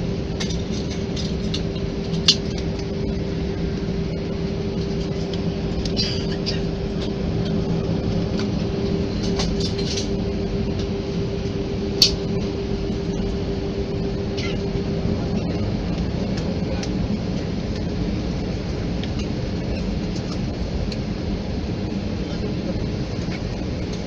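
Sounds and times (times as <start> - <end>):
jet engines humming in cabin: 0.0 - 24.0.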